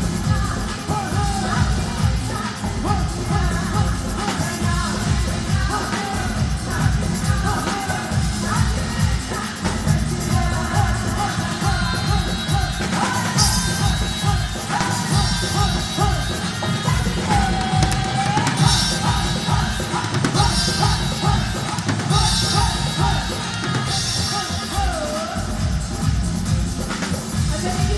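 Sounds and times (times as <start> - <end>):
heavy drum beat with deep bass: 0.0 - 27.9
woman singing: 0.0 - 27.9.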